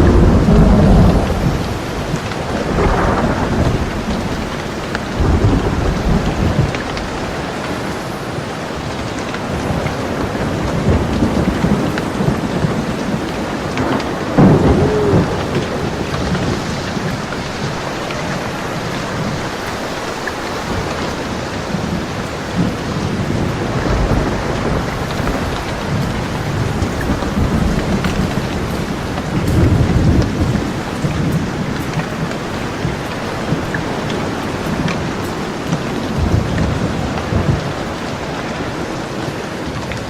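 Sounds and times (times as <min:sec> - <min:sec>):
sharp thunderclap: 0:00.0 - 0:07.4, 0:09.5 - 0:19.6, 0:20.7 - 0:37.9
rolling thunder: 0:00.0 - 0:08.1, 0:08.8 - 0:40.0
steady rain: 0:00.0 - 0:40.0.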